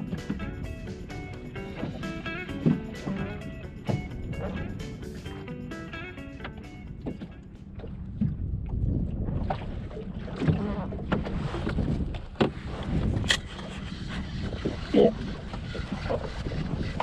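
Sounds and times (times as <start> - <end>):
wind buffeting microphone: 0.0 - 5.4, 6.8 - 17.0
water slapping boat hull: 0.0 - 17.0.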